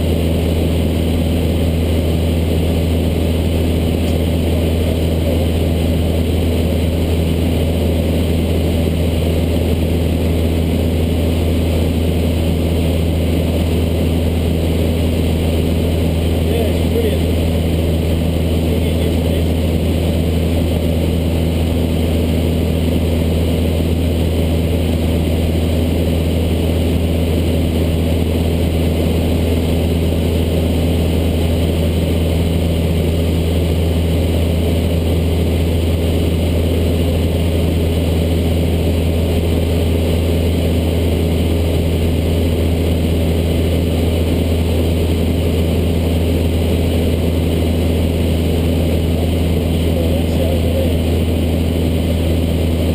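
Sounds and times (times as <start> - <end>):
aircraft engine drone in cabin: 0.0 - 52.9.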